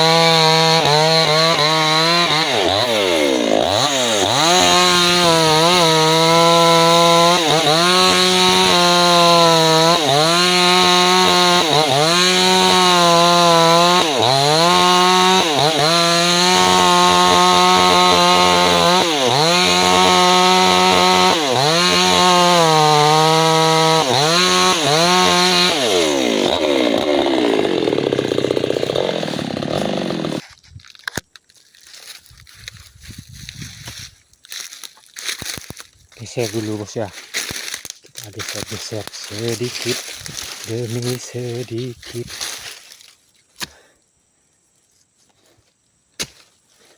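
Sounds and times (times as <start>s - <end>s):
chainsaw cutting wood: 0.0s - 31.2s, 33.6s - 43.9s.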